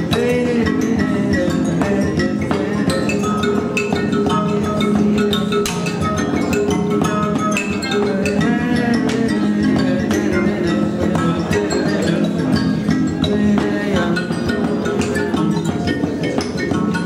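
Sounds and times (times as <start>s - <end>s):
tuned percussion notes: 0.0s - 17.0s.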